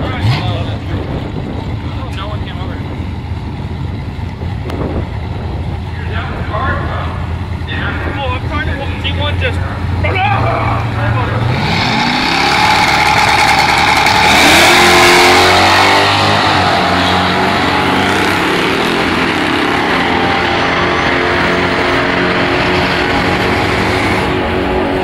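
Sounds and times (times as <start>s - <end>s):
drag race car engine accelerating: 0.0s - 25.0s.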